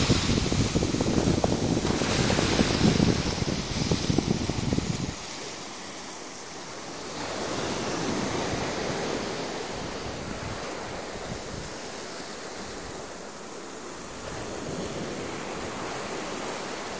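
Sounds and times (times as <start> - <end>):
sea waves breaking on beach: 0.0 - 16.9.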